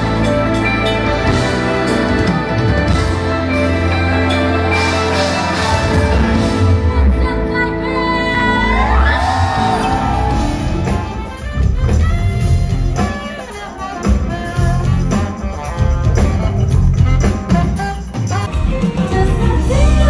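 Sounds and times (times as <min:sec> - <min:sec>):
instrumental pop band music: 0:00.0 - 0:20.0.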